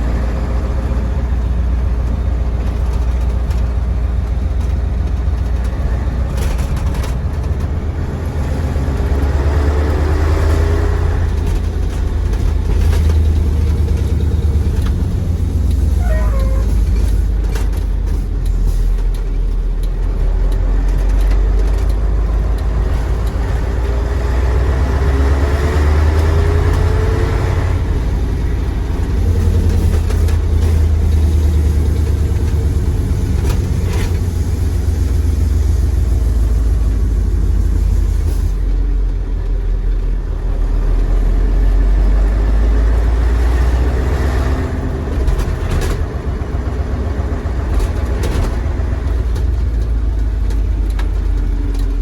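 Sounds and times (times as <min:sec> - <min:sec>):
diesel truck engine rumbling: 0:00.0 - 0:52.0.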